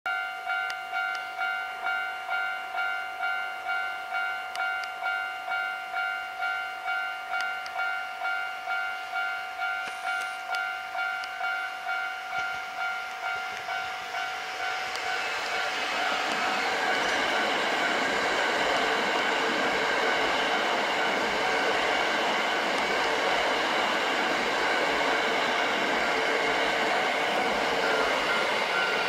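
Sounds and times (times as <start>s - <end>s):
level crossing warning bell: 0.1s - 29.0s
train passing: 0.5s - 29.0s.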